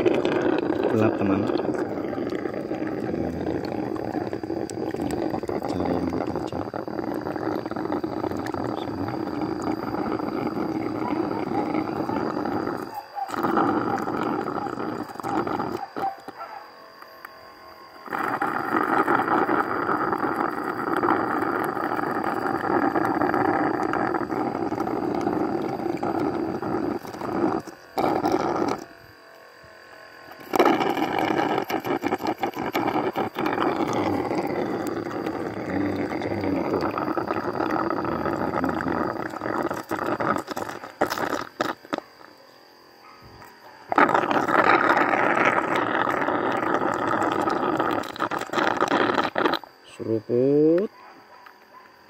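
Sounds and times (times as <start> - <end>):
pump suction rushing: 0.0 - 16.6, 18.0 - 29.3, 30.2 - 42.4, 43.8 - 49.7.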